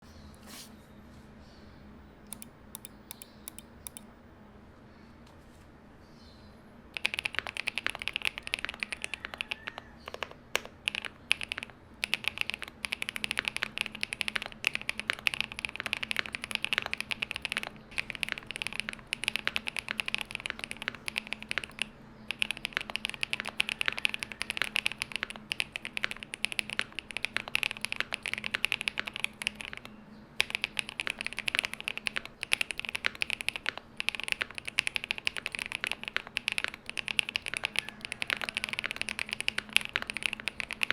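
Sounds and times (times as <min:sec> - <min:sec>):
fast mechanical keyboard typing: 0:02.3 - 0:04.0, 0:06.9 - 0:40.9.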